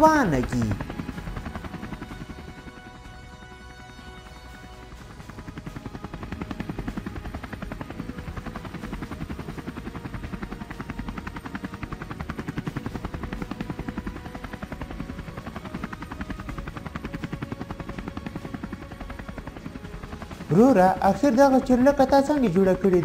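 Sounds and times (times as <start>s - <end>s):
helicopter rotor blades beating: 0.0s - 23.0s.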